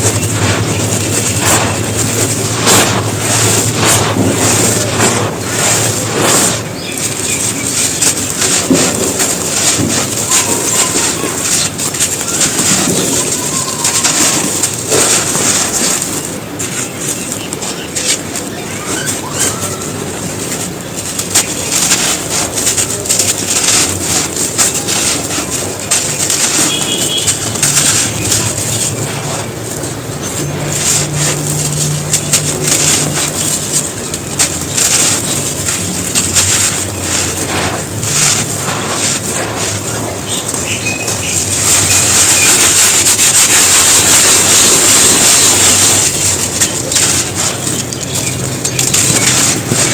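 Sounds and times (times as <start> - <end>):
brick crunching and crumbling: 0.0 - 49.9.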